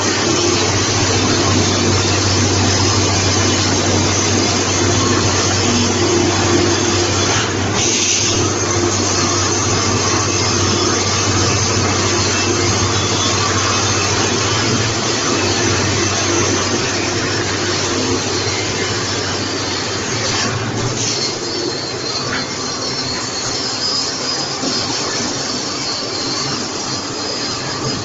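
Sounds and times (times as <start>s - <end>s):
machine whirring with low hum: 0.0s - 28.0s.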